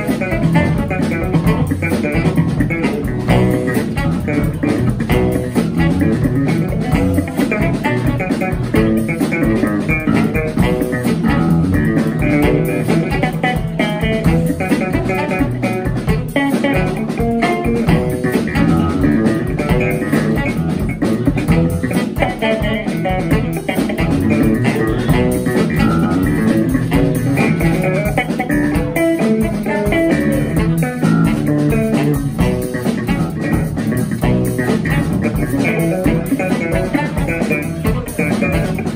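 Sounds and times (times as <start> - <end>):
drum kit: 0.0 - 38.9
electric bass line: 0.0 - 38.9.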